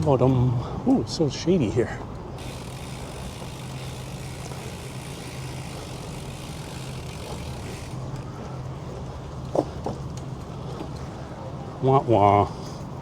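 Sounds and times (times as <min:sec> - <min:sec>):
low hum of traffic: 0:00.0 - 0:13.0.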